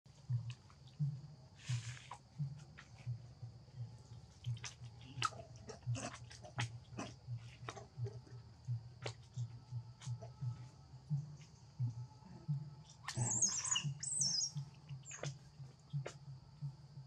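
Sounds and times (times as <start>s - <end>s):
regular low thuds: 0.1s - 17.0s.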